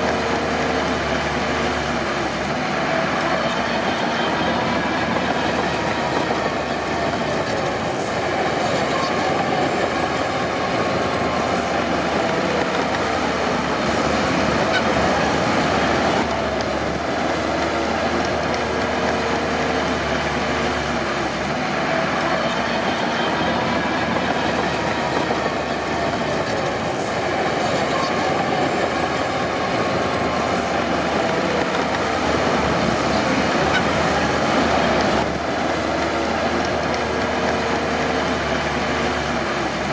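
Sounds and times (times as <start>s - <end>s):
bulldozer engine running: 0.0s - 39.9s
steel tracks squealing: 0.0s - 39.9s.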